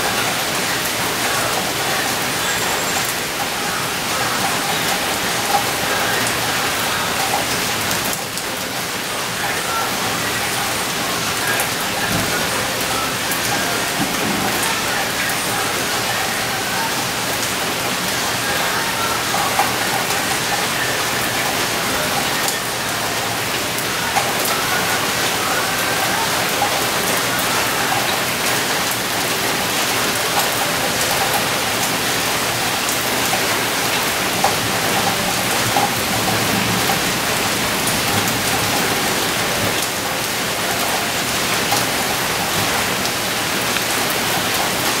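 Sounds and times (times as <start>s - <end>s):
heavy rain falling: 0.0s - 45.0s
raindrops ticking nearby: 0.0s - 45.0s.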